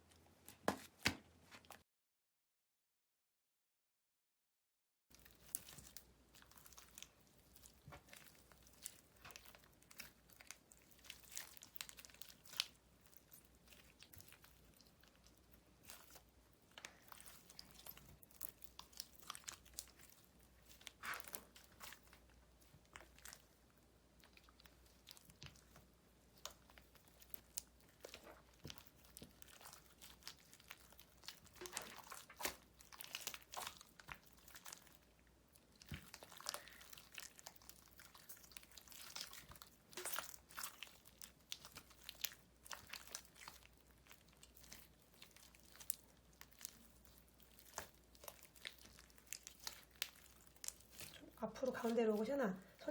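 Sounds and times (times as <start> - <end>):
sticky slime crackles: 5.1 - 52.9.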